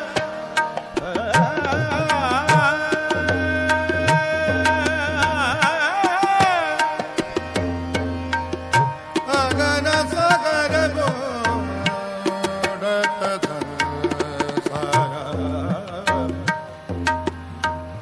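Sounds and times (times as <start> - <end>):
tabla playing: 0.0 - 18.0.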